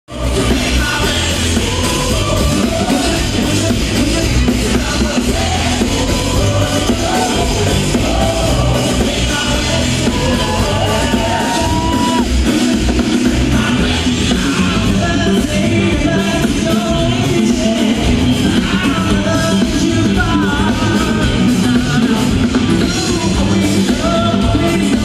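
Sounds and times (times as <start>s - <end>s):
live rock band playing: 0.1s - 25.0s.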